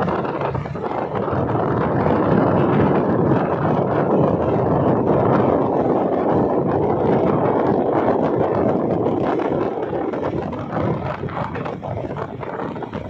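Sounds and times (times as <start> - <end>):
boat running: 0.0 - 13.0
wind on microphone: 0.0 - 13.0.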